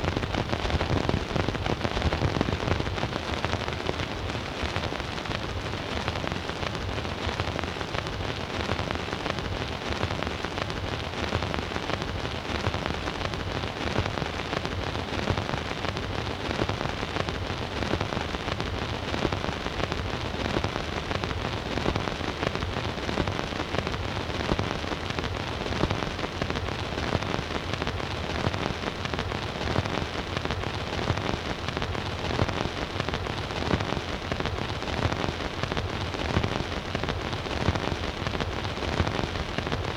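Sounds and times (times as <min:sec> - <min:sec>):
record surface hiss and crackle: 0:00.0 - 0:39.9.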